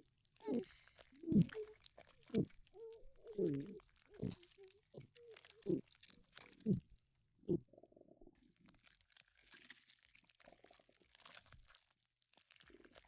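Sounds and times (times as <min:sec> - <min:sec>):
faint stomach gurgling: 0:00.0 - 0:13.0
soft crackles: 0:00.0 - 0:13.0.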